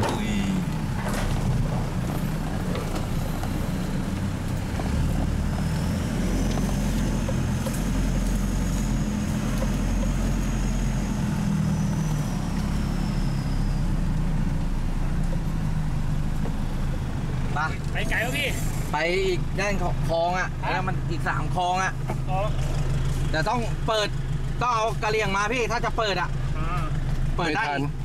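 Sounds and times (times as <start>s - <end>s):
engine rumbling inside cabin: 0.0s - 28.0s.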